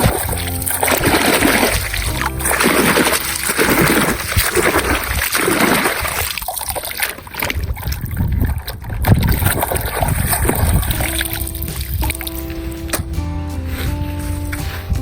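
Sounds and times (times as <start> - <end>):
low handling rumbles: 0.0 - 5.4, 7.6 - 15.0
water splashing and trickling: 0.0 - 15.0.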